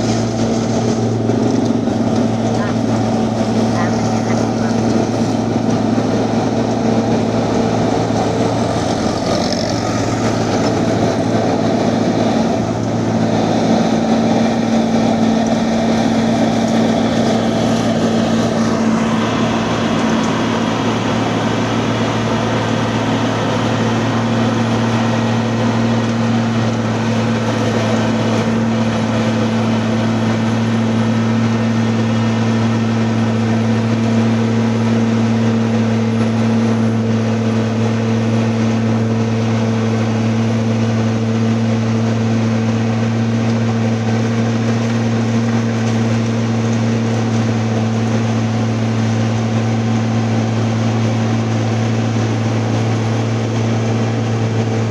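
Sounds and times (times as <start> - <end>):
machinery engine humming: 0.0 - 54.9.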